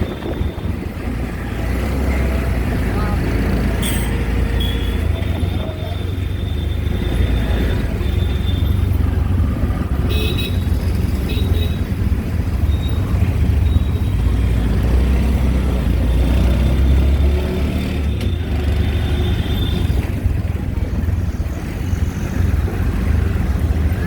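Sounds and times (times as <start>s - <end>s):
rickshaw engine and road rumble: 0.0s - 24.0s.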